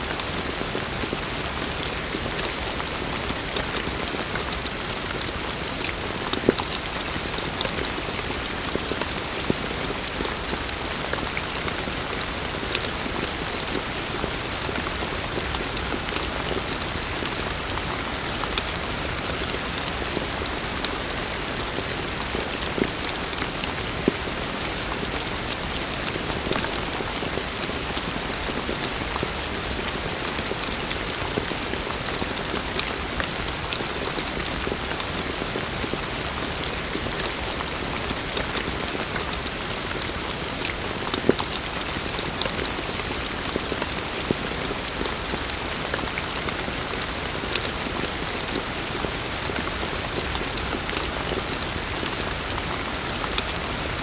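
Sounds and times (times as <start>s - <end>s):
raindrops striking a surface: 0.0s - 54.0s.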